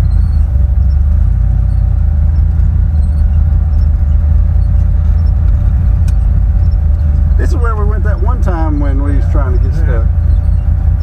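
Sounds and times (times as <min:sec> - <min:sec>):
engine and road rumble: 0:00.0 - 0:11.0
faint steady whine: 0:00.0 - 0:11.0.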